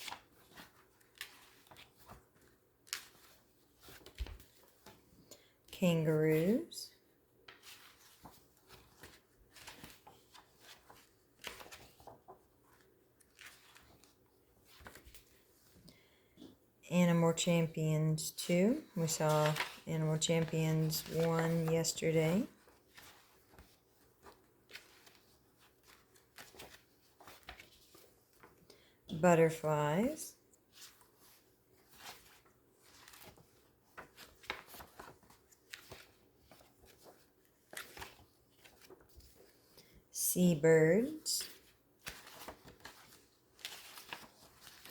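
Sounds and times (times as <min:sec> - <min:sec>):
magazine pages turning: 0:00.0 - 0:05.3, 0:07.4 - 0:15.8, 0:18.9 - 0:28.7, 0:30.6 - 0:39.8, 0:41.4 - 0:44.9.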